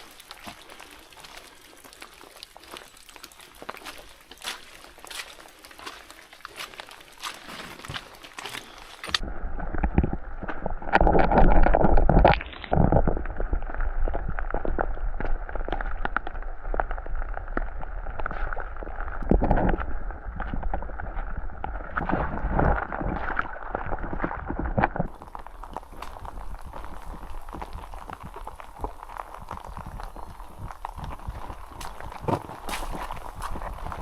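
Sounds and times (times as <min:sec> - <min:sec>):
water gurgling and splashing: 0:00.0 - 0:34.0.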